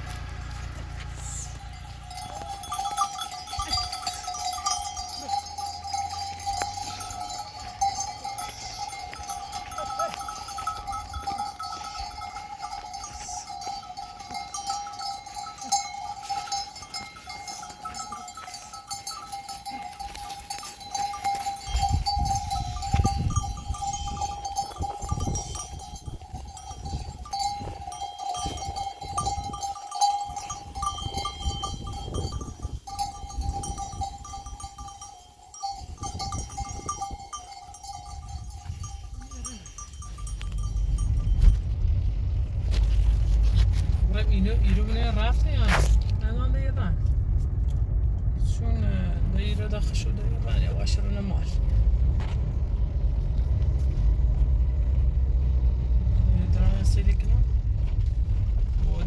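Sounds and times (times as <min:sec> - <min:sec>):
livestock bells jingling: 0:00.0 - 0:59.0
low rumble: 0:00.0 - 0:59.0.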